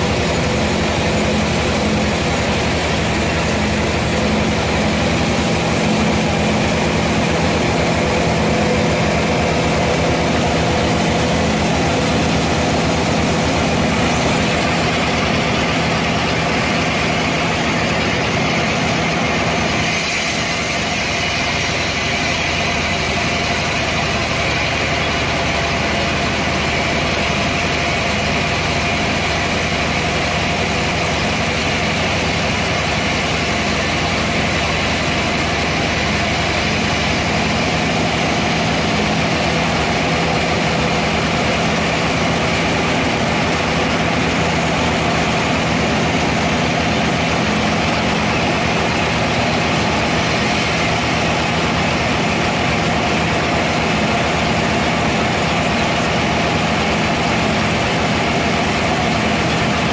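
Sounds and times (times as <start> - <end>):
band saw cutting through log: 0.0 - 59.9
machine hum: 0.0 - 59.9.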